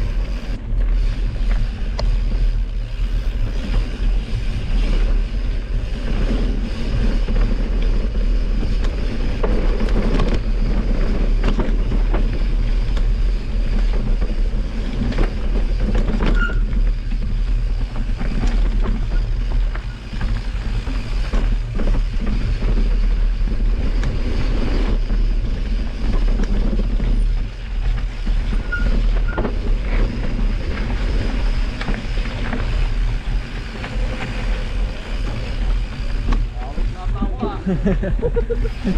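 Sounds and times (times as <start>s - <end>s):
bike rattling and knocking: 0.0s - 38.9s
tyres rolling over dirt and rock: 0.0s - 38.9s
wind on microphone: 0.0s - 38.9s.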